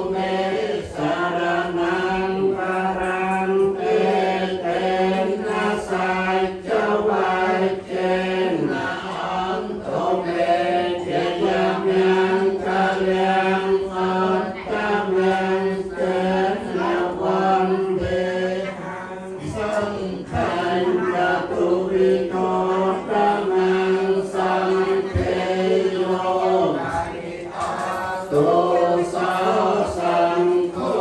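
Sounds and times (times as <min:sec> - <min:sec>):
group chanting in unison: 0:00.0 - 0:31.0.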